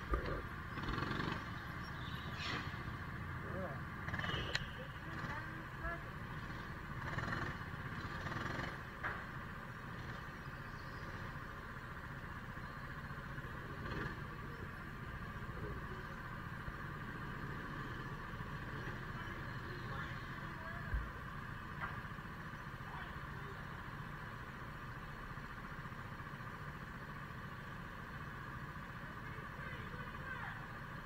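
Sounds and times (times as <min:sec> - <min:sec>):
go-kart engines humming: 0:00.0 - 0:31.0.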